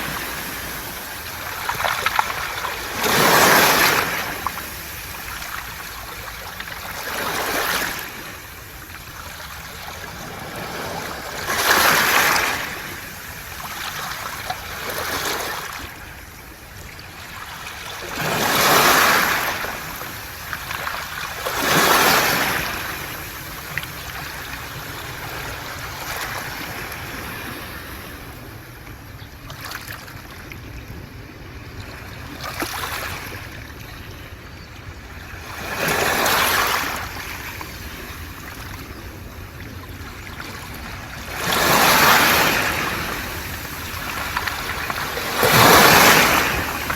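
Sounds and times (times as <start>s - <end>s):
waves washing over pebbles: 0.0s - 28.8s, 35.3s - 46.9s.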